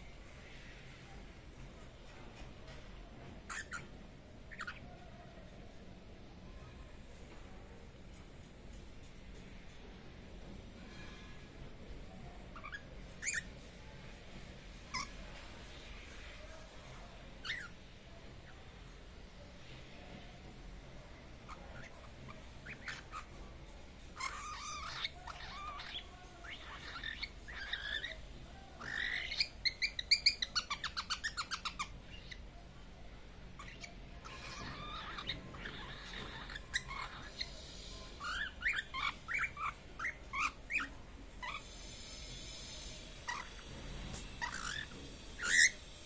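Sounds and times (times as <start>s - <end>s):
bird chirping and chattering: 1.5s - 7.3s, 8.0s - 19.4s, 20.1s - 46.0s.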